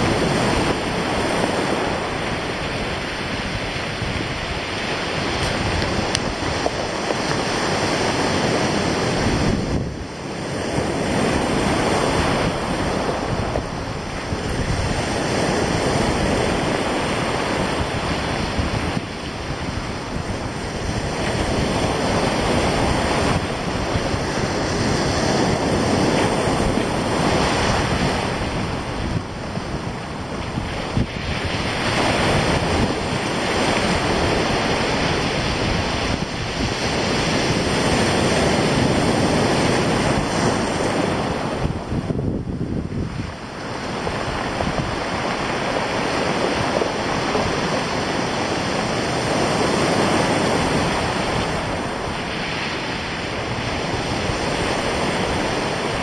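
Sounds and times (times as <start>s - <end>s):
surf breaking on stony shore: 0.0s - 56.0s
wind buffeting microphone: 0.0s - 56.0s.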